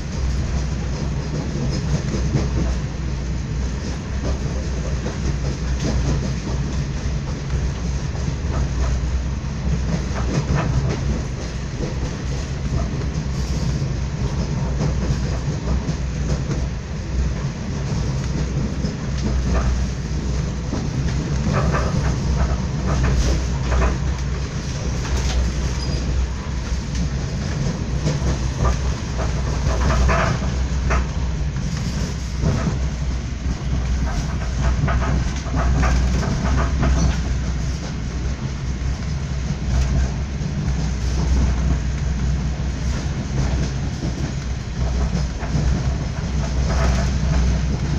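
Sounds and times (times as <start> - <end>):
train clicks and knocks: 0.0 - 47.9
train rumble inside carriage: 0.0 - 47.9.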